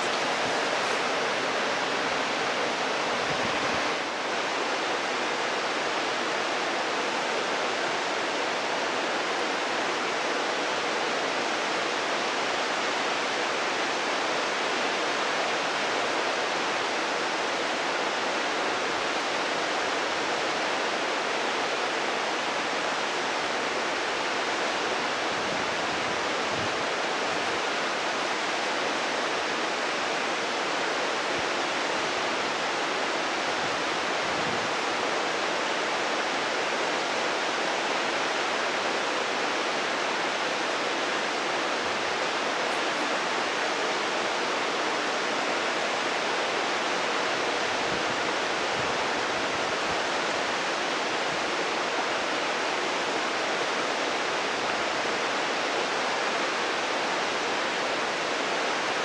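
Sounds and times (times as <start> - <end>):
stream rushing water: 0.0 - 59.0.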